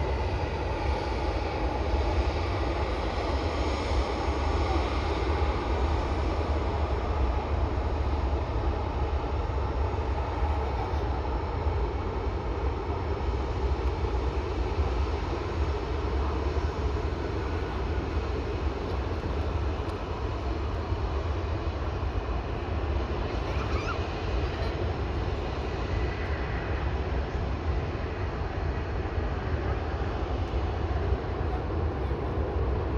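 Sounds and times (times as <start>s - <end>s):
jet airliner engines running: 0.0s - 32.9s.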